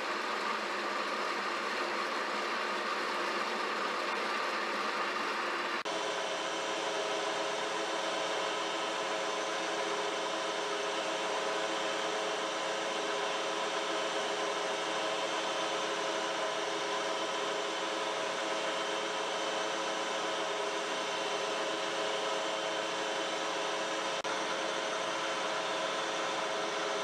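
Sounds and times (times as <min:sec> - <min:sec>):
metal lathe whining: 0:00.0 - 0:27.0.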